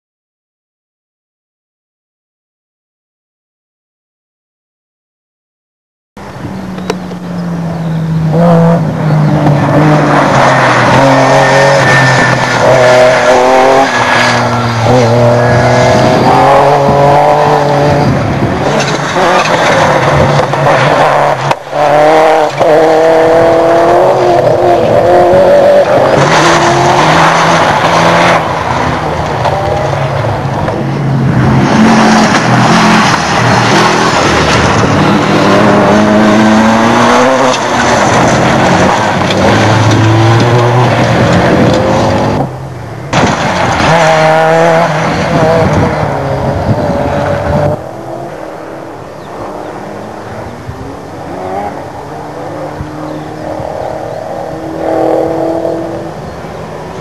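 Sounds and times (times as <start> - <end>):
rally car engines revving: 6.2 - 57.0.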